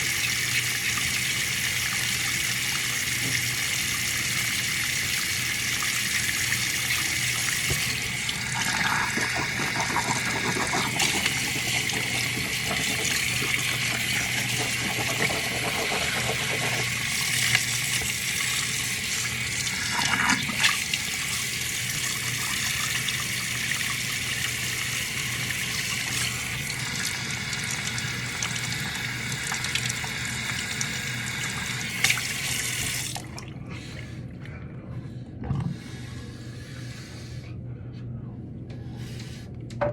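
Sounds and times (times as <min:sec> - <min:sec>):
water running from a tap: 0:00.0 - 0:33.5.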